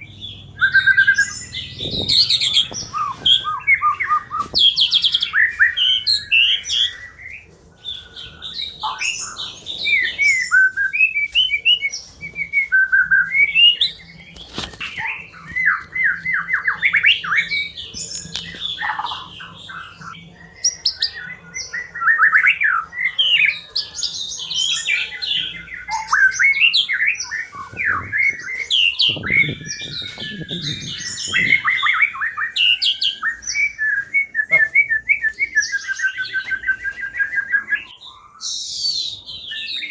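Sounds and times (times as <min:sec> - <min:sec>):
songbird whistling and trilling: 0:00.0 - 0:39.9.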